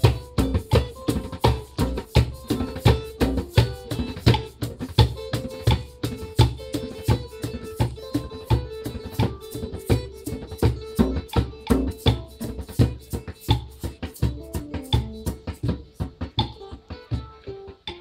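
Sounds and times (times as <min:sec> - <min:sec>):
shaken or scraped percussion: 0:00.0 - 0:16.6
acoustic guitar: 0:00.0 - 0:18.0
hand drum beating: 0:00.0 - 0:18.0.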